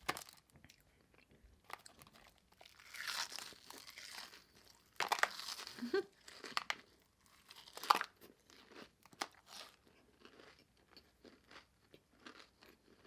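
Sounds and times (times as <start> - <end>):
crunchy bites: 0.0 - 0.8, 1.6 - 13.0
soft chewing: 0.0 - 13.0.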